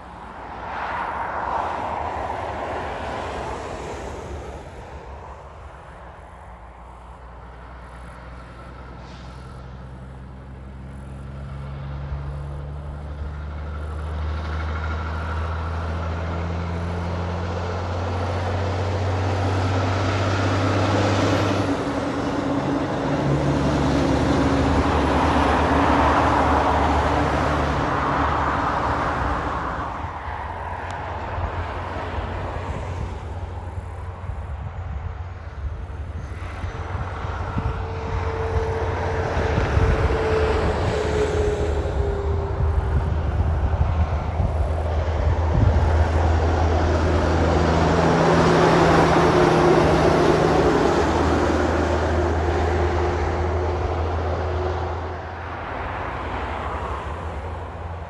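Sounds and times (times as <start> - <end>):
truck diesel engine hum: 0.0 - 58.0.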